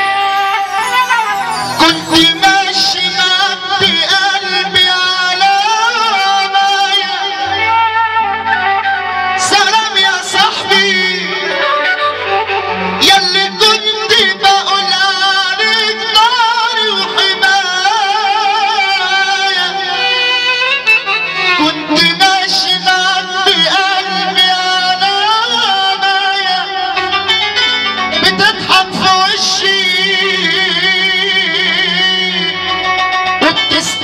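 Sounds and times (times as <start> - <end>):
instrumental backing music: 0.0 - 34.0
man singing into microphone: 0.0 - 34.0.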